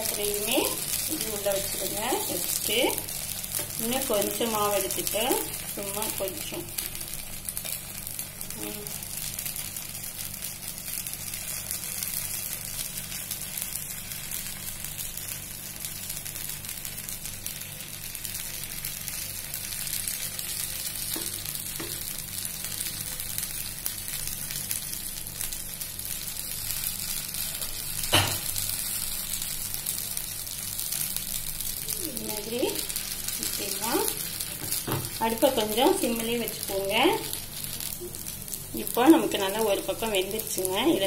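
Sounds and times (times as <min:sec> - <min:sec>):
batter sizzling in hot oil: 0:00.0 - 0:41.0.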